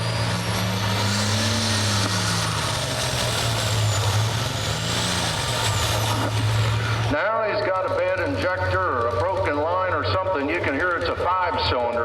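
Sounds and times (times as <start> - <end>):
tractor diesel engine running hard: 0.0 - 12.0.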